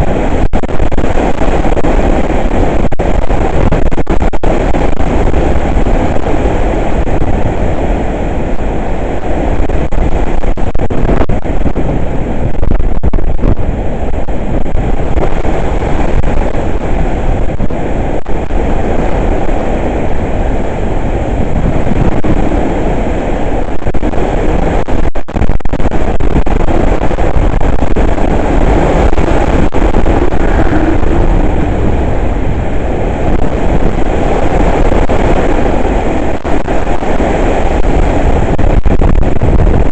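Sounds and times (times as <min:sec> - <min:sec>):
strong wind on microphone: 0:00.0 - 0:39.9.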